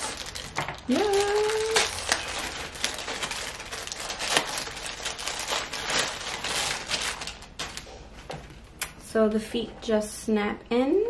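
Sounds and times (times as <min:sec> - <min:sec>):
plastic wrapping crinkling: 0:00.0 - 0:08.9.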